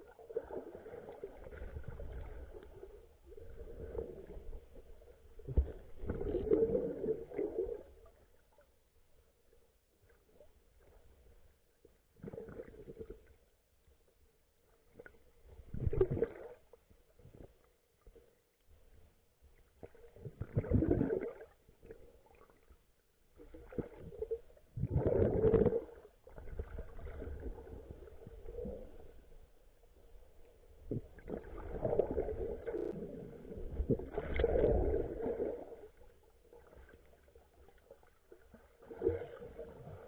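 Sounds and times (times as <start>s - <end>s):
muffled underwater sloshing: 0.0s - 40.0s.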